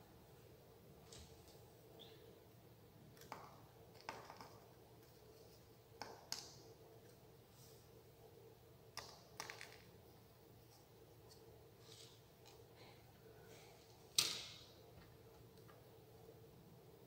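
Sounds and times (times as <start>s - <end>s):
quiet room hum: 0.0s - 17.0s.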